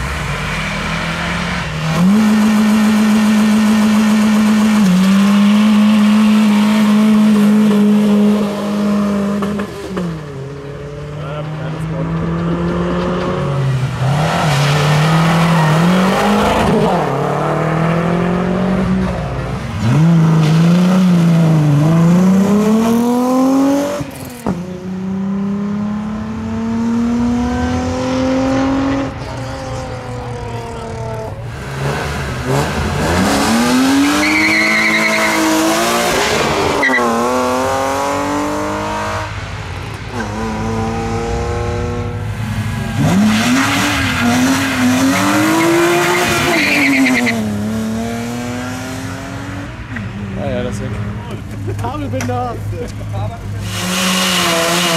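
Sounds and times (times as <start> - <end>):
race car engines revving: 0.0 - 54.9.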